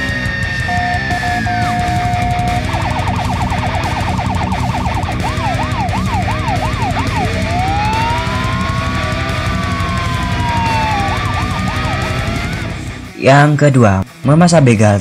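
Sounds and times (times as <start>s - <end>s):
electronic siren: 0.0s - 13.0s.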